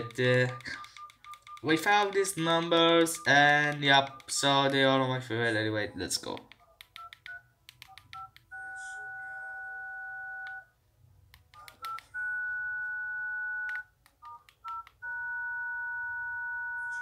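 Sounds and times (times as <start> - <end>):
phone keypad touch-tone beeps: 0.0 - 4.7, 6.9 - 10.7, 11.6 - 17.0.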